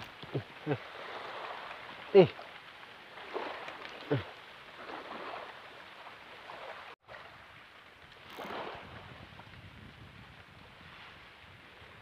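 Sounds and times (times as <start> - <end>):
small waves lapping on shore: 0.0 - 12.0.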